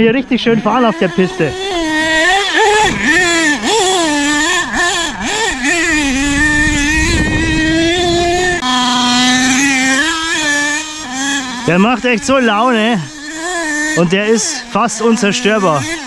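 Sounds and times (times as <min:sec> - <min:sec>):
small glow engine revving: 0:00.7 - 0:16.0.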